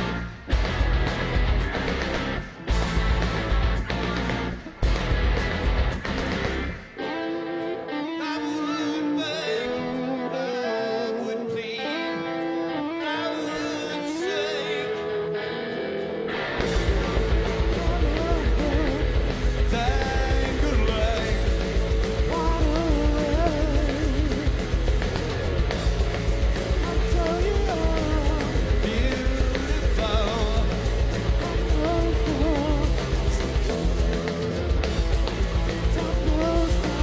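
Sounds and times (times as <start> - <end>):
bass guitar: 0.0 - 8.2, 14.2 - 37.0
drums: 0.0 - 10.2, 13.6 - 37.0
electric guitar melodic line: 0.0 - 37.0.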